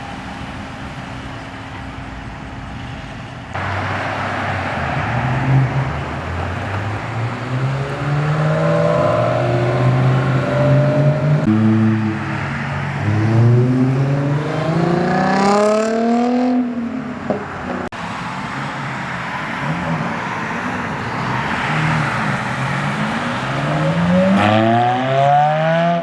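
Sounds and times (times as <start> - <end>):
car engines accelerating: 3.5 - 26.0.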